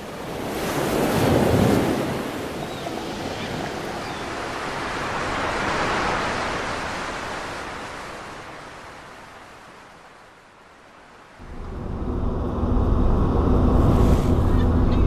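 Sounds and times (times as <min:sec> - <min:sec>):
ocean surf breaking: 0:00.0 - 0:10.2, 0:10.9 - 0:15.0.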